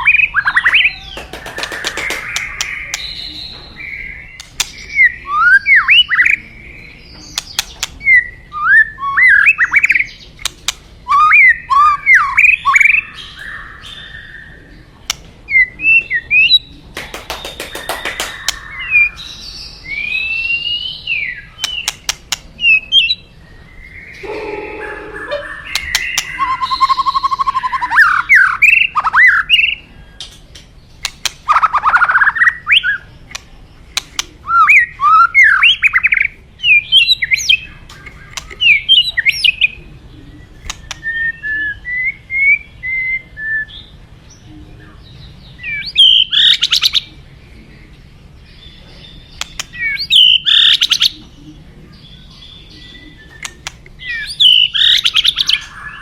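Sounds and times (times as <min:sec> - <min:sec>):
bird singing varied song: 0:00.0 - 0:56.0.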